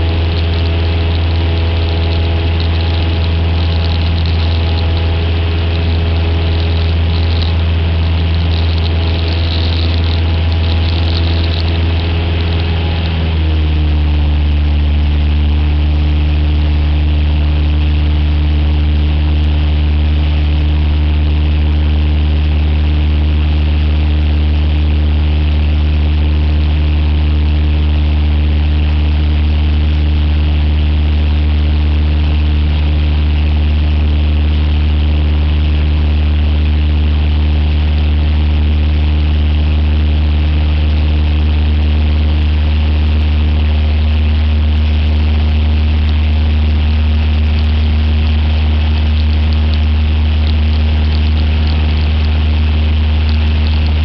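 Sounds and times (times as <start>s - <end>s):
airplane engine droning: 0.0s - 54.0s.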